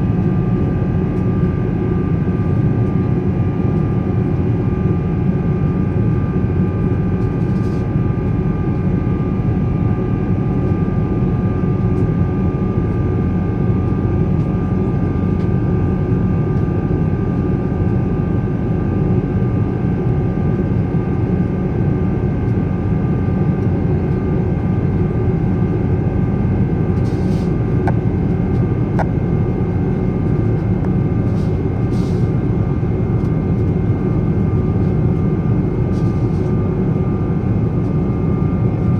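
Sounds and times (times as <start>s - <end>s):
aircraft cabin engine rush: 0.0s - 38.9s.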